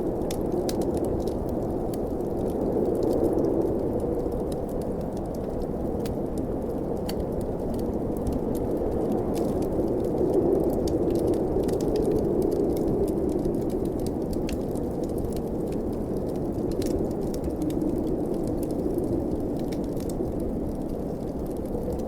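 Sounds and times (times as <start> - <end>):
rushing snowstorm wind: 0.0 - 22.0
wood fire crackling: 0.0 - 22.0.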